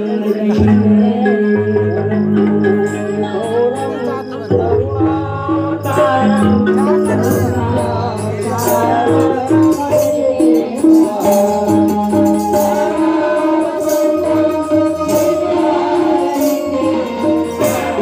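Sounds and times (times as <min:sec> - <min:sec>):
devotional music: 0:00.0 - 0:18.0
jingling tambourine-like percussion: 0:00.0 - 0:18.0.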